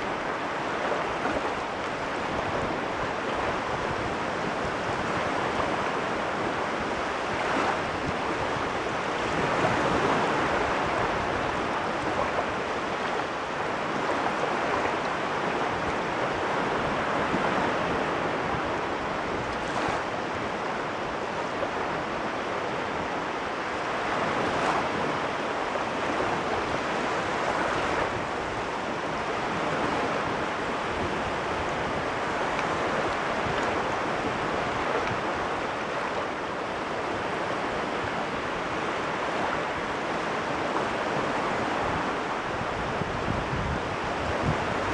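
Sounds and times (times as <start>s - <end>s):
sea waves washing in: 0.0s - 44.9s.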